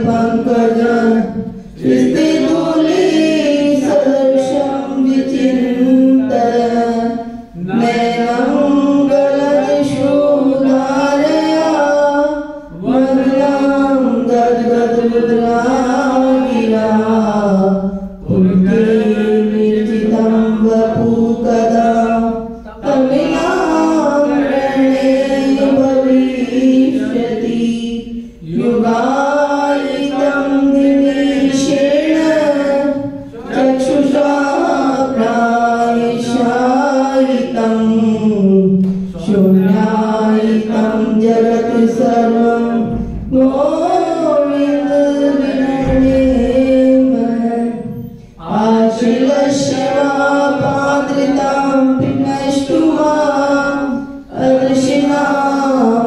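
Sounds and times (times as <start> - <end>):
group singing devotional chant: 0.0 - 56.0.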